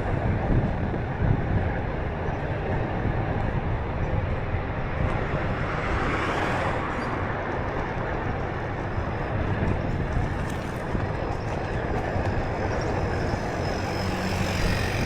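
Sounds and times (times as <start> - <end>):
road and traffic noise: 0.0 - 15.0
wind rumbling on microphone: 0.0 - 15.0.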